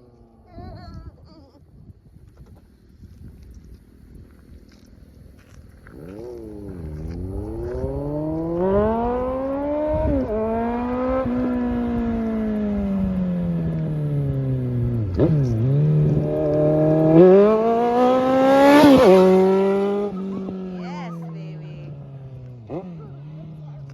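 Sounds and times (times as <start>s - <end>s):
motorcycle engine accelerating: 2.2s - 23.9s.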